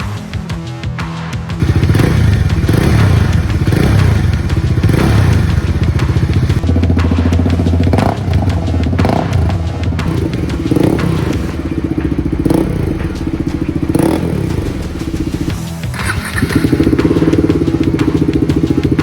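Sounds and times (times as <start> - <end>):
music: 0.0 - 19.0
motorcycle engine revving: 1.6 - 19.0.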